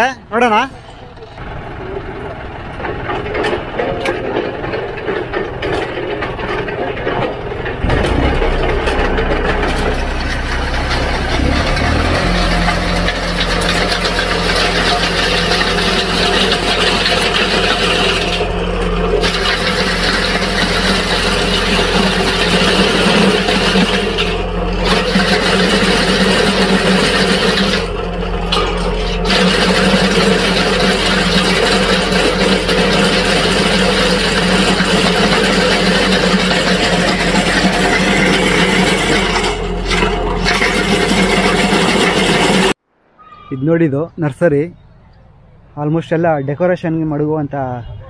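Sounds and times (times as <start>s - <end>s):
tractor engine running: 0.7s - 42.8s.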